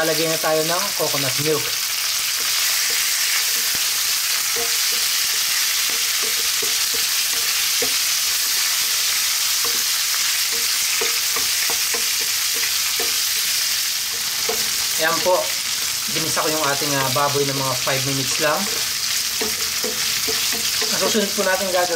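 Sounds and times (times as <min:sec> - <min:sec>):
meat sizzling in hot oil: 0:00.0 - 0:21.9
wooden spatula scraping a pan: 0:02.3 - 0:21.4.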